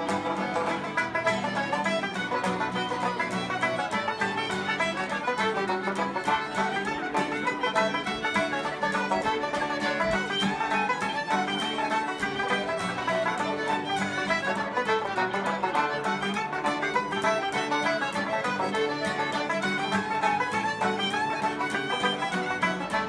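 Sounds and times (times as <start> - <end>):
fiddle melody: 0.0 - 23.0
folk band playing dance tune: 0.0 - 23.0.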